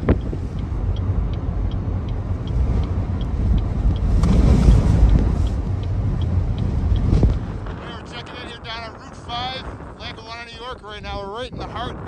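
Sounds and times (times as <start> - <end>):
faint regular ticking: 0.0 - 11.2
wind buffeting a vehicle: 0.0 - 12.0.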